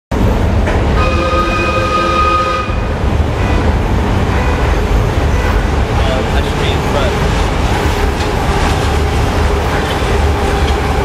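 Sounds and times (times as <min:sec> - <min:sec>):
train rumbling: 0:00.1 - 0:11.0.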